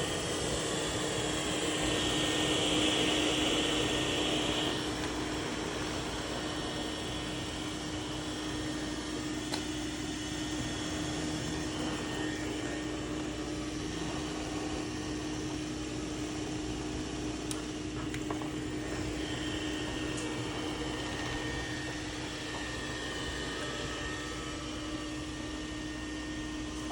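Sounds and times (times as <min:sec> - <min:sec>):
robot vacuum cleaner running: 0:00.0 - 0:26.9.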